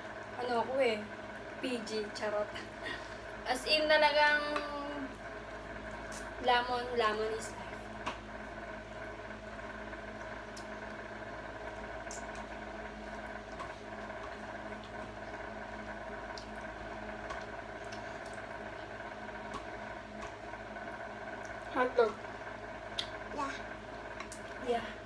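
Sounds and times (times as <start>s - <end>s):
room hum: 0.0s - 25.0s.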